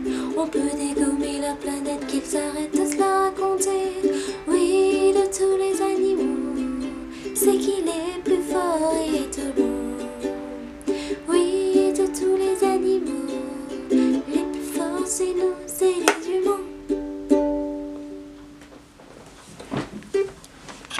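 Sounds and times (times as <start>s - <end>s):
ukulele playing chords: 0.0s - 18.7s.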